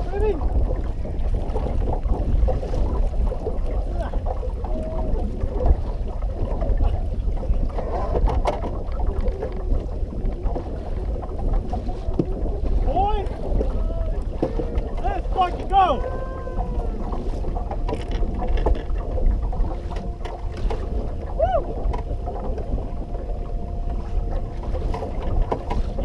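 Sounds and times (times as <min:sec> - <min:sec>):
water lapping and splashing: 0:00.0 - 0:26.0
wind rumbling on microphone: 0:00.0 - 0:26.0.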